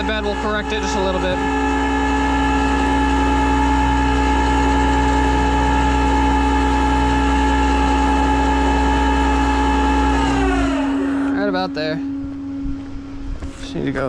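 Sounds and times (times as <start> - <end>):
hydraulic winch running: 0.0 - 11.8.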